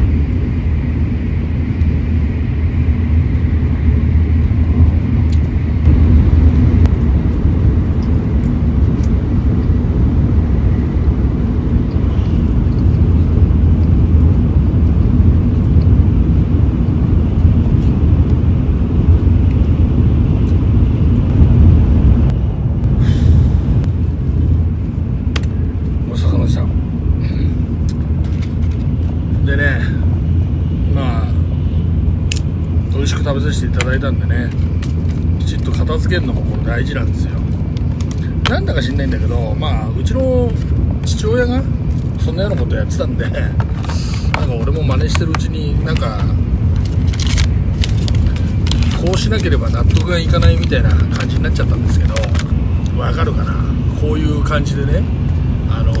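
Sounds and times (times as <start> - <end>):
train cabin rumble: 0.0 - 56.0.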